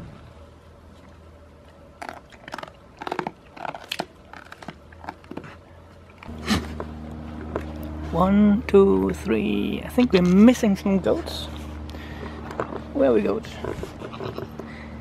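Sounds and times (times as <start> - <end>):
goats crunching and chewing: 0.7 - 15.0.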